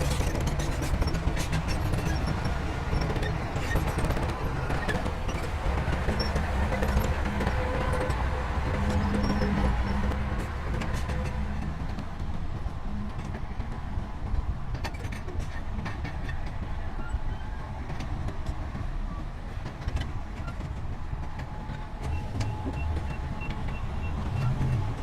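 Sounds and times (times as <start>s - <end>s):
diesel engine running low: 0.0s - 25.0s.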